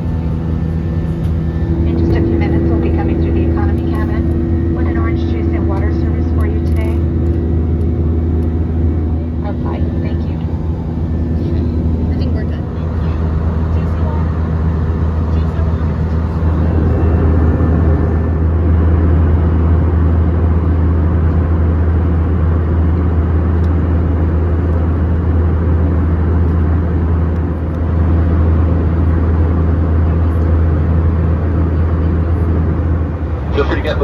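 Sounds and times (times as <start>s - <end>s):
airplane cabin engine drone: 0.0s - 34.0s
deep hum: 0.0s - 34.0s.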